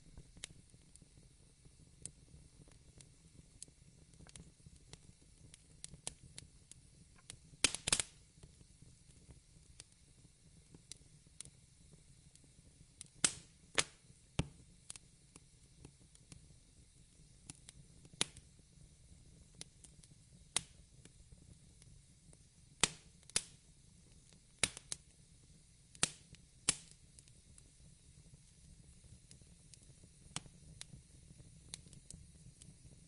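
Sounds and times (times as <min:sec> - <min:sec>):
low hiss: 0:00.0 - 0:33.0
wood fire crackling: 0:00.0 - 0:33.0.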